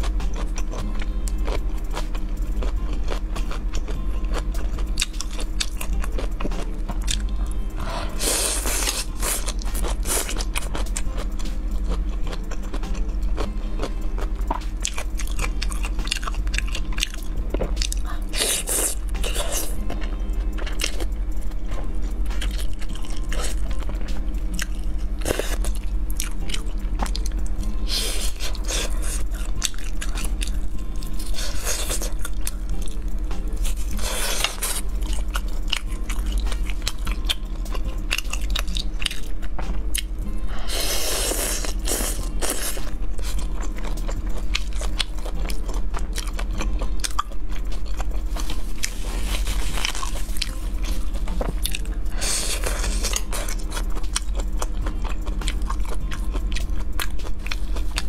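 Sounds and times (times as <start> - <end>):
crunching and wet chewing: 0.0 - 58.0.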